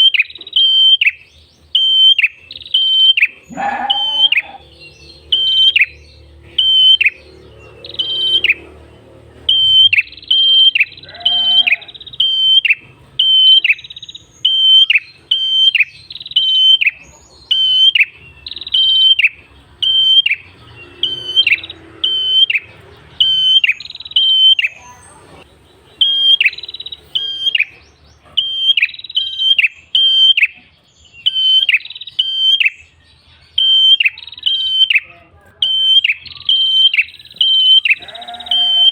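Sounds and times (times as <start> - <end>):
bird sharp descending calls: 0.0 - 25.0, 25.9 - 30.6, 33.6 - 38.9.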